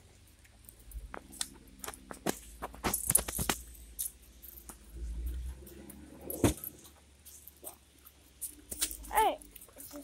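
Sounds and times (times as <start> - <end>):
sharp clicks and metallic rattles: 0.3 - 10.0.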